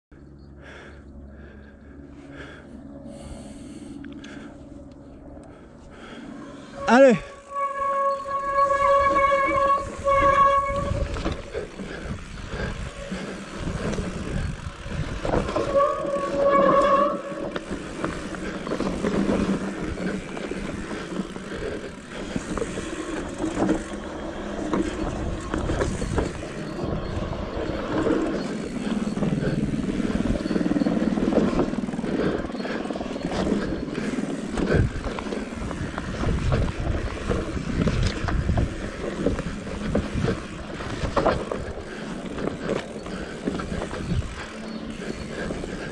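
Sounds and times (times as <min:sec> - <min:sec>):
mountain bike on dirt trail: 0:00.2 - 0:45.9.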